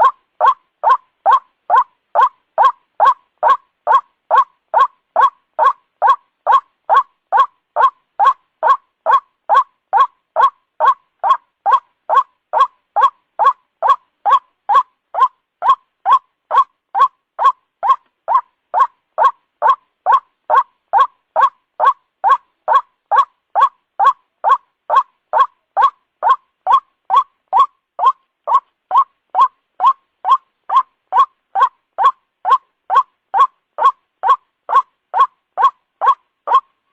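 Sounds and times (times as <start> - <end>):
waterhen call: 0.0 - 36.8.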